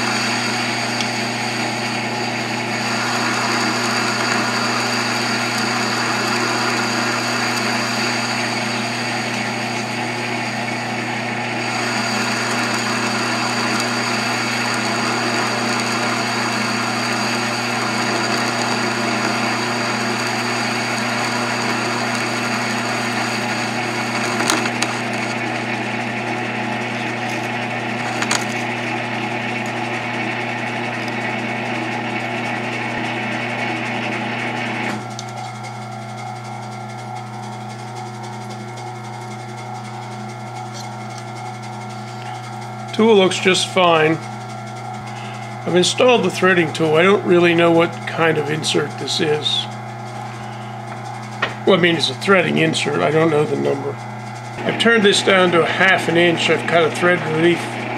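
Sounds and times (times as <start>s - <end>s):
cutting tool on spinning metal: 0.0s - 57.9s
lathe running with steady hum: 0.0s - 57.9s.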